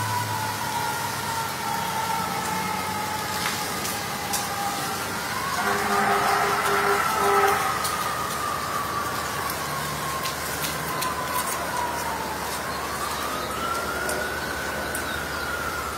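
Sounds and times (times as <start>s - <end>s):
siren wailing: 0.0s - 15.9s.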